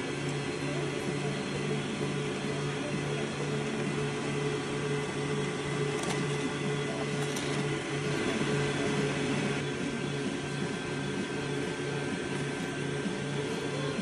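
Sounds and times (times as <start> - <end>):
stand mixer motor humming: 0.0 - 14.0.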